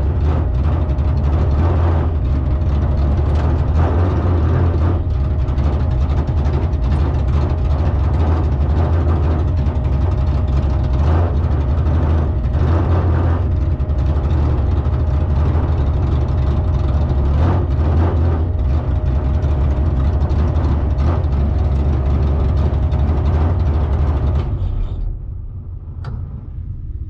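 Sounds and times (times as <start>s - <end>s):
car engine idling low: 0.0s - 27.0s.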